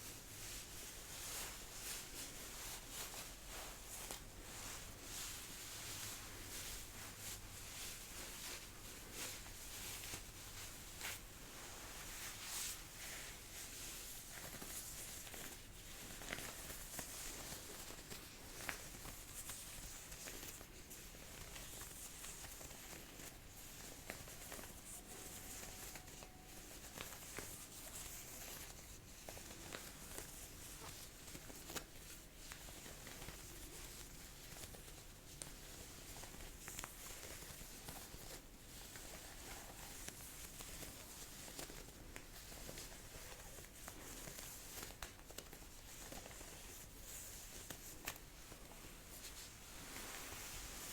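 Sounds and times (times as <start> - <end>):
jacket fabric rustling: 0.0 - 50.9.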